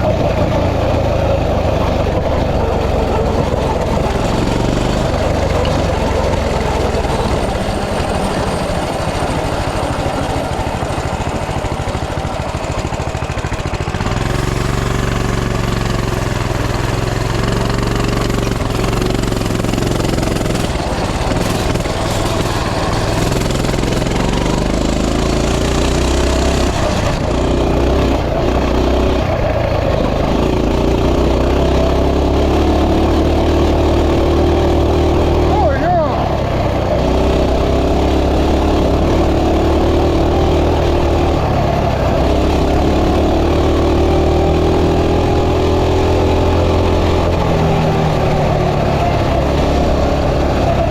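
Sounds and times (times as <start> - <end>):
mini bike engine revving: 0.0 - 50.9.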